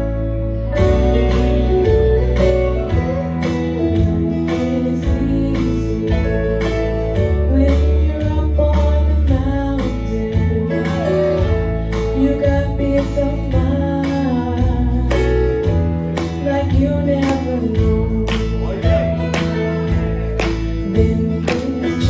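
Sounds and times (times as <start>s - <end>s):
acoustic guitar strumming: 0.0s - 22.0s
held bass notes: 0.0s - 22.0s.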